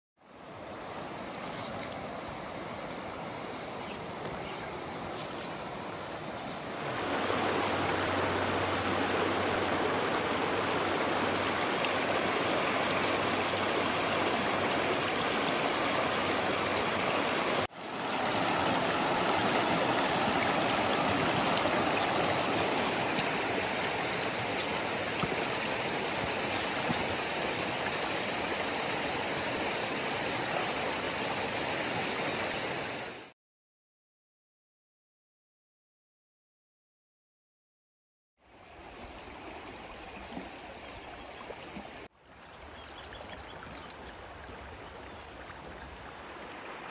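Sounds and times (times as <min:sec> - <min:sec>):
stream rushing over stones: 0:00.3 - 0:33.3, 0:38.5 - 0:46.9.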